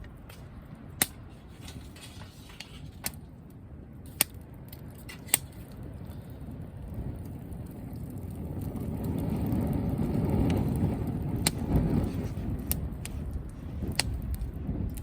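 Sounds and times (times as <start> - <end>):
campfire rumbling: 0.0 - 15.0
firewood popping: 0.0 - 15.0.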